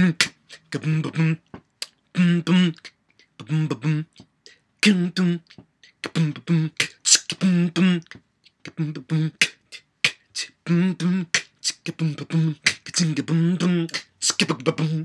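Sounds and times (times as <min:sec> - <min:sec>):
beatboxing clicks and hummed bass: 0:00.0 - 0:15.0.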